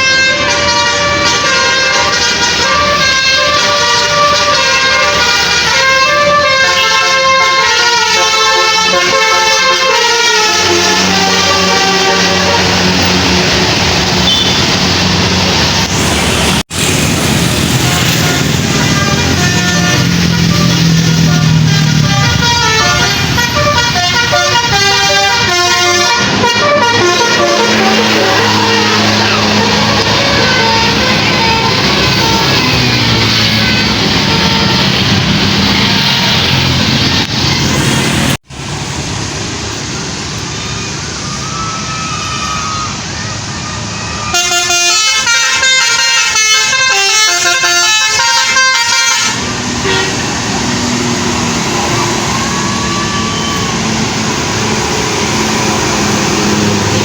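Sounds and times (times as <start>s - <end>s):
musical air horn tune: 0.0s - 15.2s, 17.7s - 36.5s, 44.2s - 57.0s
bus engine running: 0.0s - 57.0s.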